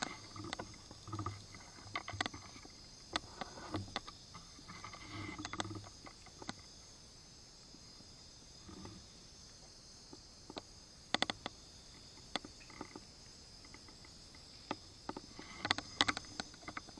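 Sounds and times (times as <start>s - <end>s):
high-pitched insect chorus: 0.0s - 16.9s.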